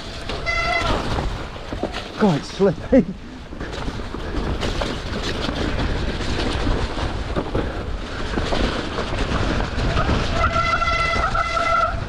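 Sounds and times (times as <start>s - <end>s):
bike frame and chain rattling: 0.0s - 12.0s
bike tyres rumbling over mud: 0.0s - 12.0s.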